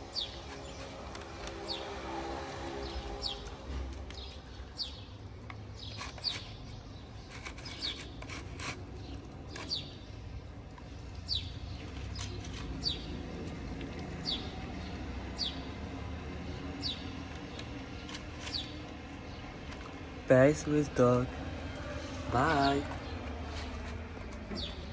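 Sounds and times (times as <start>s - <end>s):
small bird chirping: 2.6s - 24.9s.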